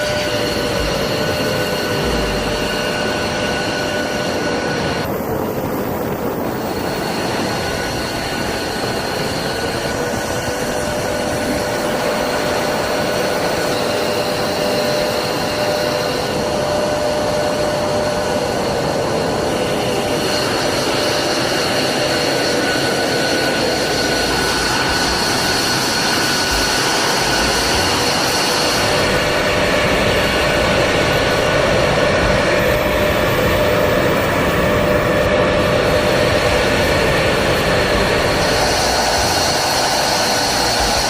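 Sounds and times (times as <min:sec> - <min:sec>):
jet engine running: 0:00.0 - 0:41.0.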